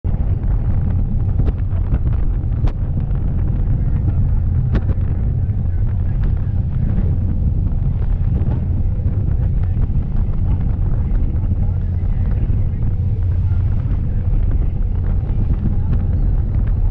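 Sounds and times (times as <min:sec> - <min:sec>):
boat engine low rumble: 0:00.0 - 0:16.9
wind buffeting microphone: 0:00.0 - 0:16.9.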